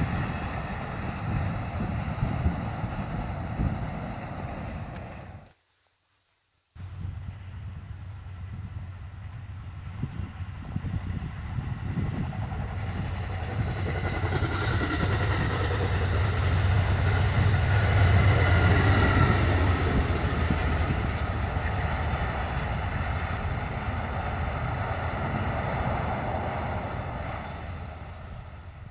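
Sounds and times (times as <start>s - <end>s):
train passing by: 0.0s - 5.5s, 6.8s - 28.9s.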